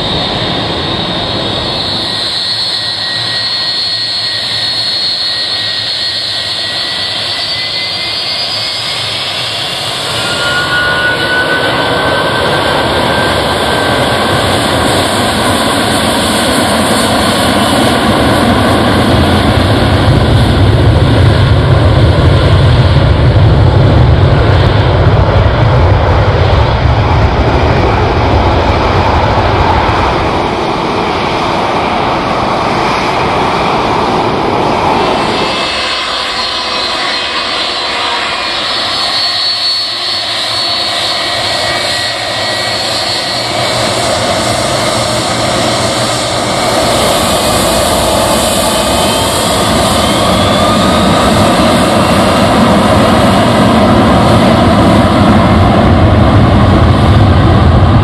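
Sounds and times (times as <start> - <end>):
jet engines whining: 0.0 - 58.0
deep jet rumble: 8.5 - 39.2, 39.9 - 58.0.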